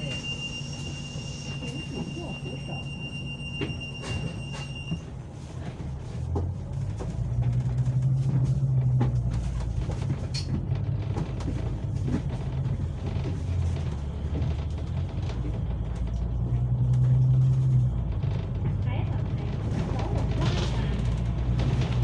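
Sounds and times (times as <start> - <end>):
vehicle interior hum and rumble: 0.0 - 22.0.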